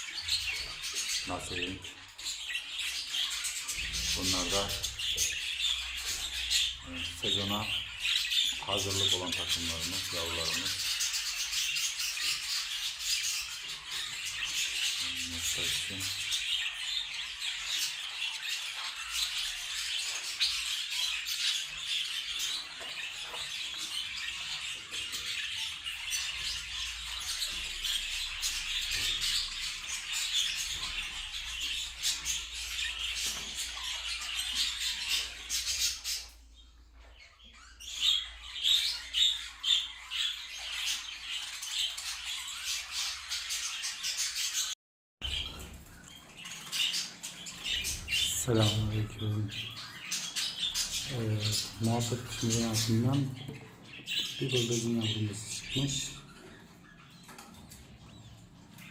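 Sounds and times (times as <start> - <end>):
budgerigars chattering and chirping: 0.0 - 58.9.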